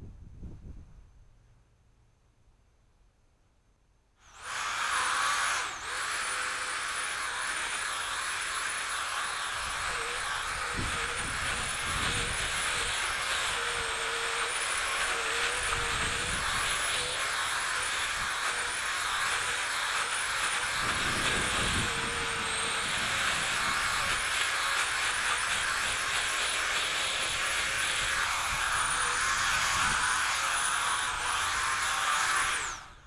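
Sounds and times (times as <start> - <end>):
chainsaw cutting: 4.2 - 33.0.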